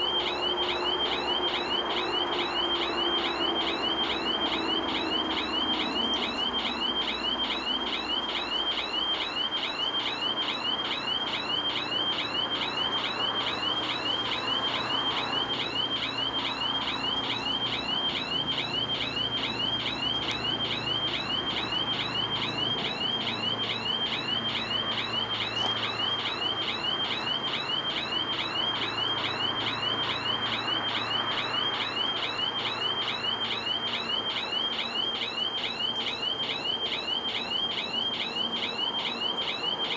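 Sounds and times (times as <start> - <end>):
level crossing warning bell: 0.0 - 39.9.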